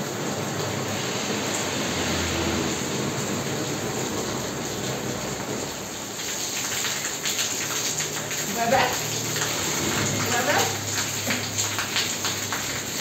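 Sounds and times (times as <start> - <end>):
heavy rain on tiles: 0.0 - 13.0.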